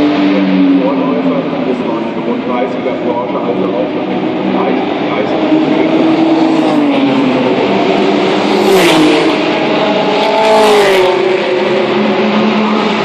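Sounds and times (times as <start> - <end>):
racing cars passing at speed: 0.0 - 13.0.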